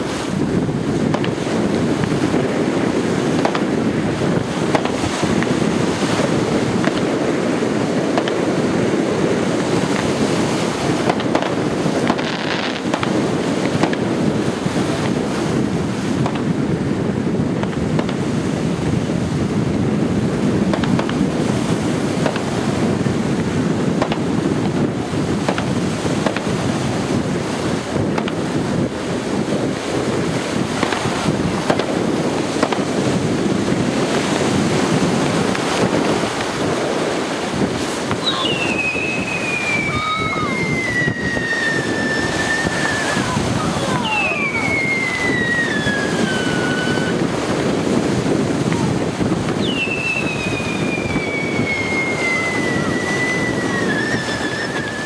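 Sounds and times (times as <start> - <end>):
distant firework bangs and crackles: 0.0 - 55.0
wind noise on microphone: 0.0 - 55.0.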